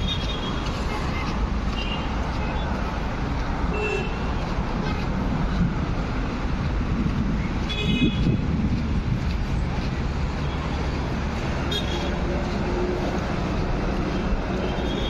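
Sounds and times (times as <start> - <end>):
passing road traffic: 0.0 - 15.0.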